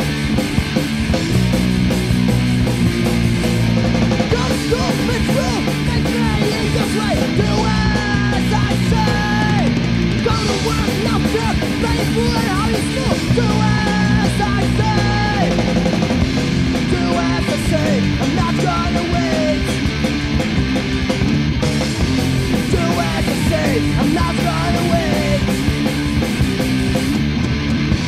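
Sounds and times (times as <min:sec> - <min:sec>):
punk rock band playing: 0:00.0 - 0:28.0.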